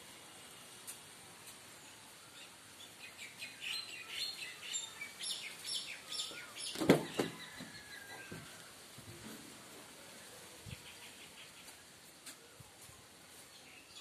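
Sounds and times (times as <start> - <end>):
small birds chirping: 0.4 - 8.6, 10.2 - 14.0.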